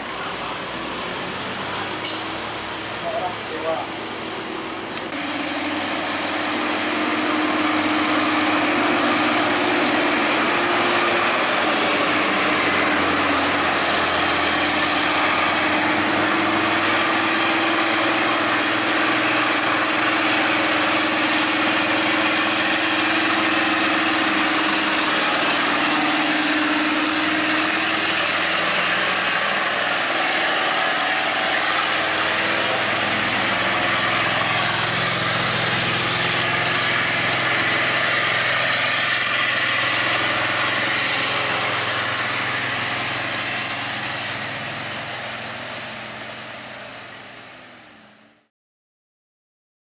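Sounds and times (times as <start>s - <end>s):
heavy truck engine running: 0.0s - 48.4s.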